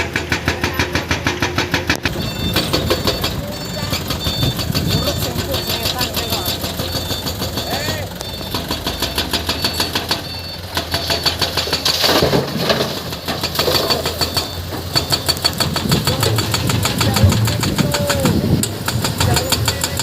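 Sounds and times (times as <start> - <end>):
heavy diesel engine clattering: 0.0 - 20.0.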